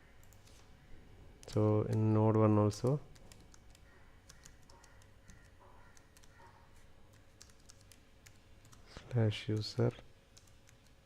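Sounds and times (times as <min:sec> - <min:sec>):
faint keyboard typing: 0:00.1 - 0:00.7, 0:01.4 - 0:11.0.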